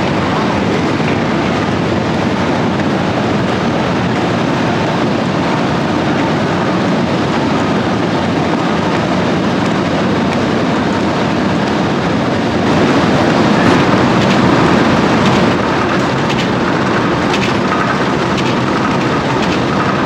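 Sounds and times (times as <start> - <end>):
tractor and harvester machinery: 0.0 - 20.0.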